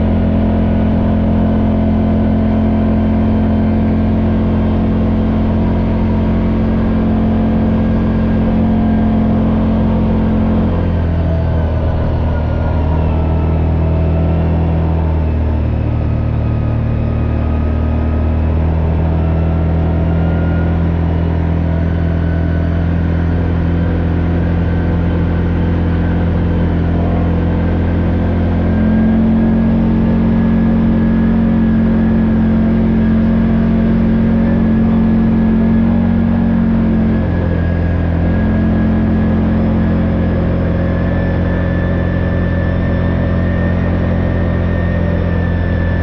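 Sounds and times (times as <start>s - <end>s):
vehicle engine droning: 0.0s - 46.0s.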